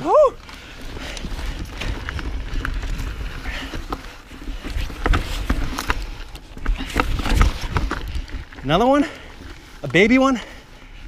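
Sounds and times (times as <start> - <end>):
bike rattling clicks and knocks: 0.0 - 11.0
bike tyres rumbling on dirt: 0.0 - 11.0.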